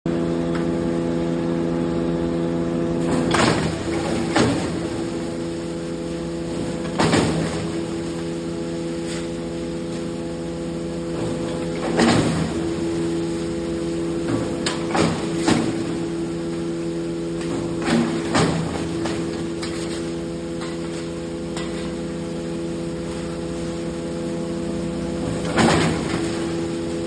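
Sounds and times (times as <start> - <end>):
wood crusher machine humming: 0.1 - 27.0.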